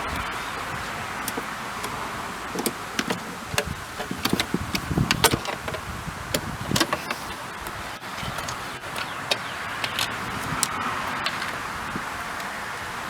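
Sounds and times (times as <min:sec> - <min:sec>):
hands handling plastic car parts: 0:00.0 - 0:12.6
steady background hiss: 0:00.0 - 0:13.0.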